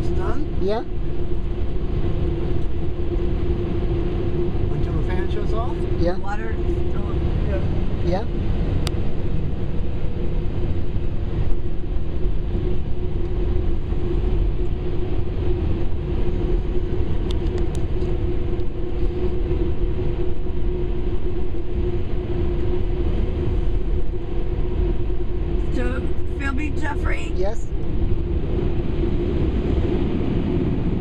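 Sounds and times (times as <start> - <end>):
car wash dryer fans droning: 0.0 - 31.0.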